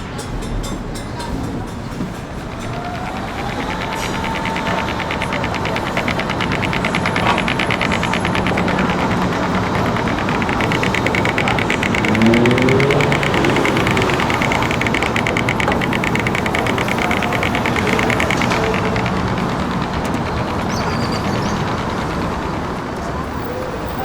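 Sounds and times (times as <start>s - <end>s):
city noise: 0.0s - 24.0s
rapid even rattle: 1.8s - 23.6s
vehicle engine running: 1.9s - 24.0s
vehicle pulling away: 2.5s - 23.4s.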